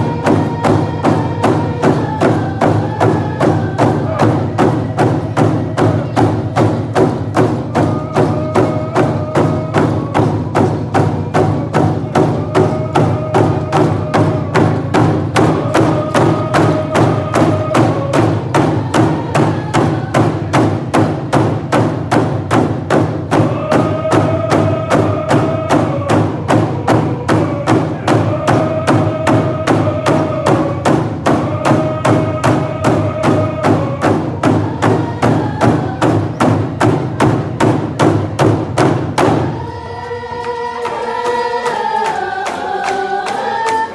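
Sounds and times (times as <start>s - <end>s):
hand drums beating: 0.0s - 39.7s
group of voices singing: 0.0s - 43.9s.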